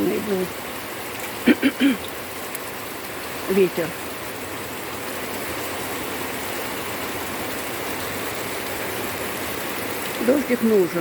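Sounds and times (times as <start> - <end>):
steady rain on plants: 0.0 - 11.0.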